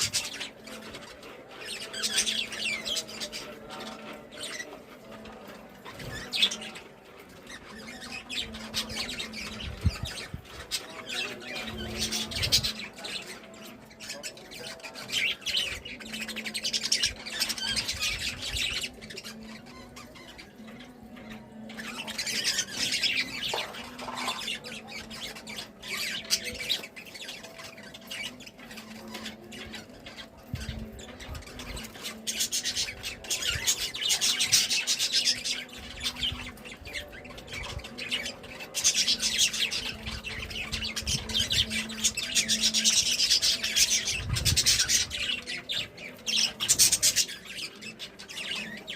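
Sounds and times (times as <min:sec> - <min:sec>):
budgerigars chattering and squawking: 0:00.0 - 0:48.9.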